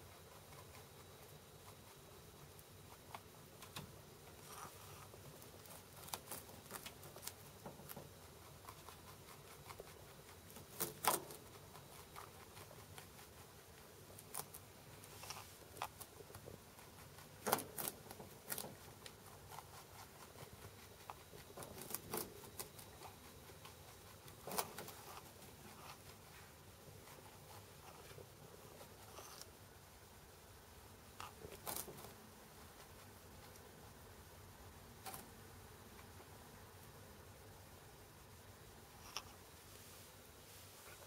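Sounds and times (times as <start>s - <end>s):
rabbit chewing cabbage: 0.0s - 41.0s.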